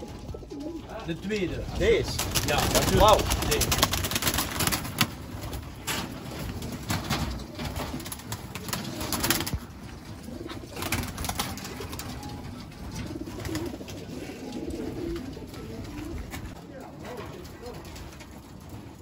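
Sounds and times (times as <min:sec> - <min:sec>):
pigeons cooing: 0:00.0 - 0:19.0
wings flapping: 0:00.0 - 0:19.0.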